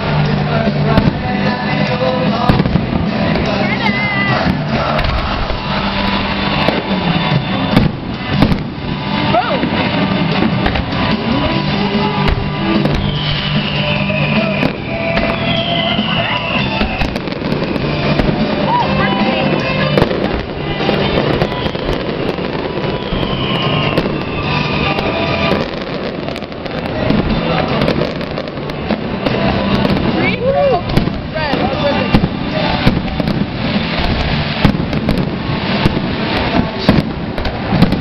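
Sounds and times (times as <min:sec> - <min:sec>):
background music: 0:00.0 - 0:38.0
fireworks bangs and crackles: 0:00.0 - 0:38.0
fireworks falling whistles: 0:00.0 - 0:38.0.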